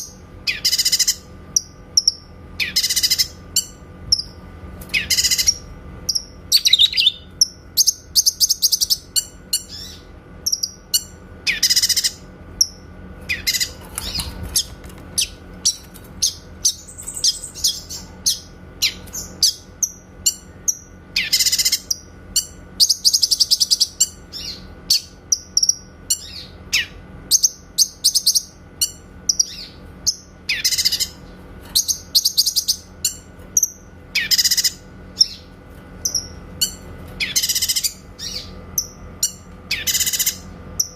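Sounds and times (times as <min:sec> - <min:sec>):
bird singing with buzzy trills: 0:00.0 - 0:40.9
faint steady hum: 0:00.0 - 0:40.9.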